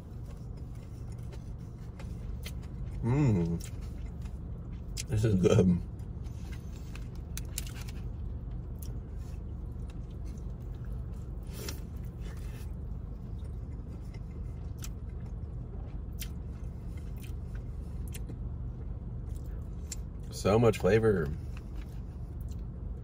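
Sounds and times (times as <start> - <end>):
chewing fried chicken: 0.0 - 20.4
low hum in car cabin: 0.0 - 23.0.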